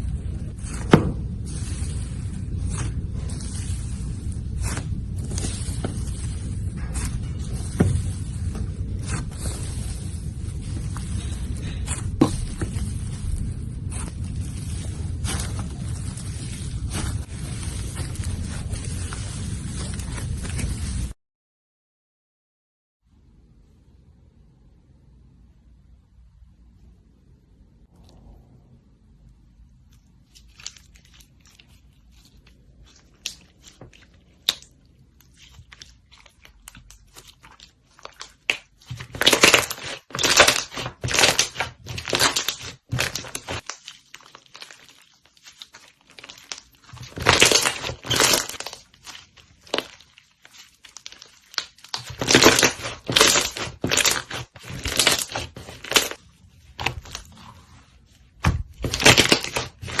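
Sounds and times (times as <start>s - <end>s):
slime crackling and popping: 0.0s - 21.2s, 30.1s - 57.5s, 58.3s - 60.0s.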